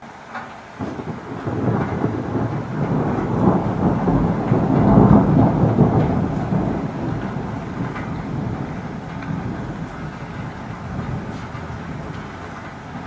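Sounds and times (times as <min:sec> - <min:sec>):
thunder rolling: 0:00.0 - 0:13.0.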